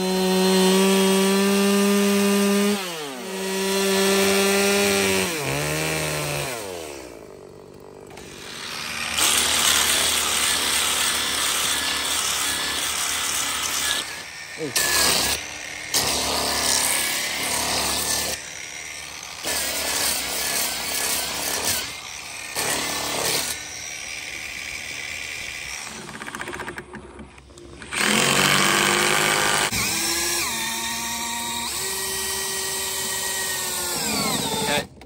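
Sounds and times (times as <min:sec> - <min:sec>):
angle grinder grinding wood: 0:00.0 - 0:35.0
power drill whining: 0:03.0 - 0:35.0.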